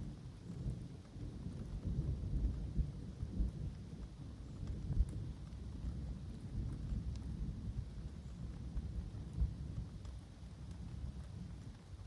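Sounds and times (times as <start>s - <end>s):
light rain: 0.0s - 12.0s.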